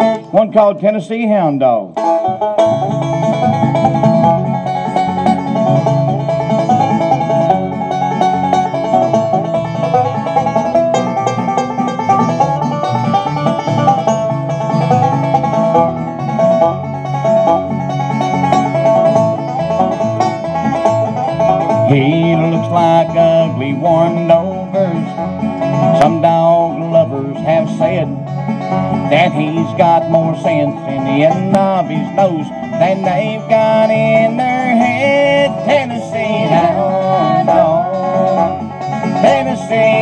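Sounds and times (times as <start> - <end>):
bluegrass band playing: 0.0 - 40.0.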